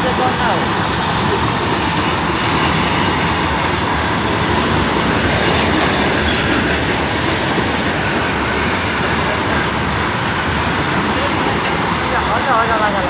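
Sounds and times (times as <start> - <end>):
train rail noise: 0.0 - 13.0.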